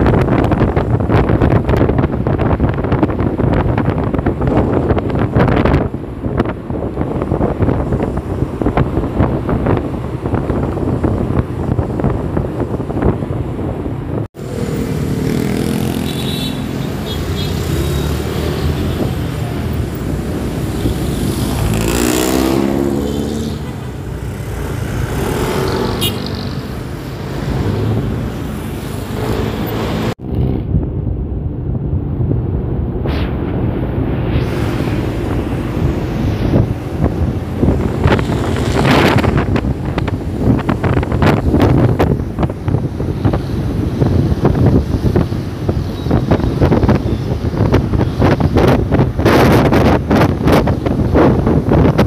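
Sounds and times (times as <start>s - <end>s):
wind buffeting microphone: 0.0s - 16.0s, 16.7s - 52.0s
motorcycle and car engines: 0.0s - 52.0s.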